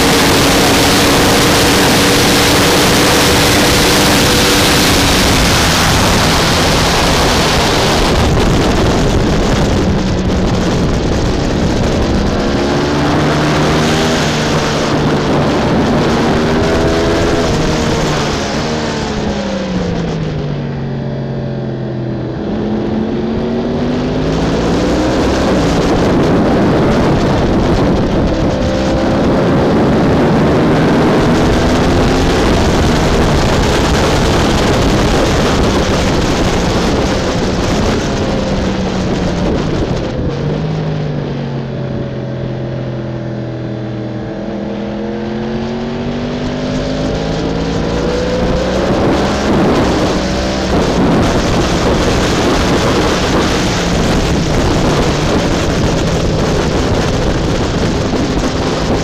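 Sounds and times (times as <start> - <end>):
motorcycle engine revving: 0.0 - 59.0
wind noise: 0.0 - 59.0.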